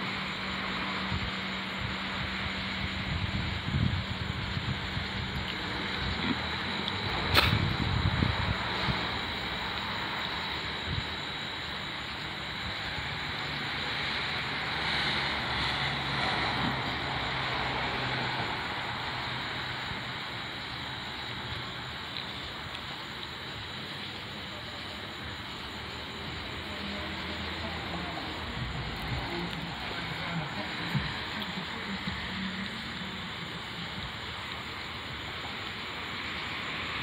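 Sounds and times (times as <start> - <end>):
hiss: 0.0 - 37.0.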